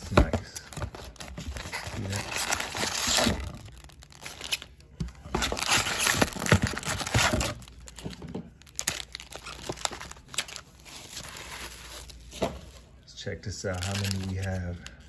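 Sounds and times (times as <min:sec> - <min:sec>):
foil packs crinkling: 0:00.0 - 0:12.4, 0:13.6 - 0:15.0.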